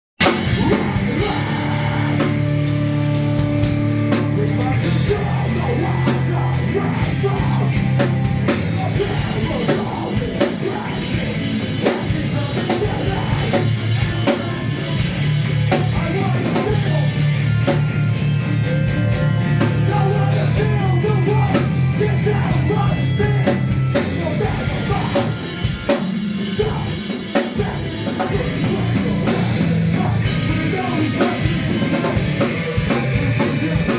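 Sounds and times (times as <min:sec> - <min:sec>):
bass notes: 0:00.2 - 0:33.9
distorted guitar: 0:00.2 - 0:33.9
drum kit with cymbals: 0:00.2 - 0:33.9
person singing: 0:00.2 - 0:33.9.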